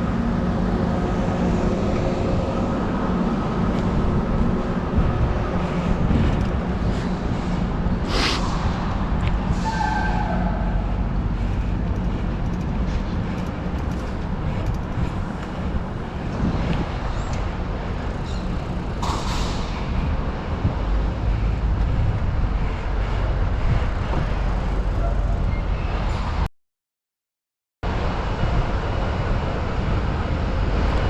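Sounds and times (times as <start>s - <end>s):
wind buffeting microphone: 0.0s - 26.5s, 27.9s - 31.0s.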